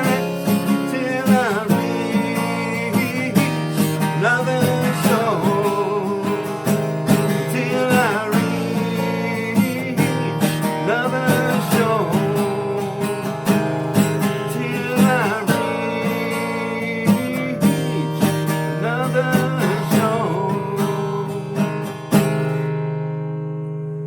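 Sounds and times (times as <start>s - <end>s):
acoustic guitar strummed and picked: 0.0s - 24.0s.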